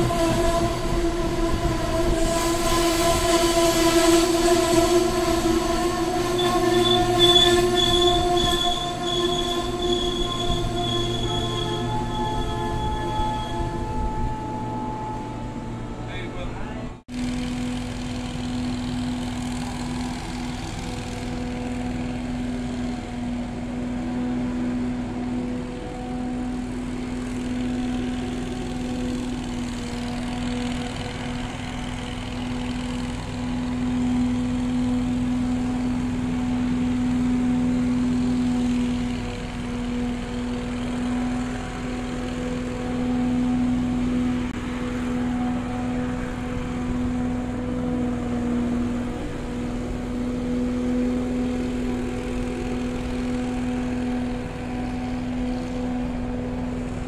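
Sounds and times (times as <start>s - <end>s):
electric train drone: 0.0s - 57.0s.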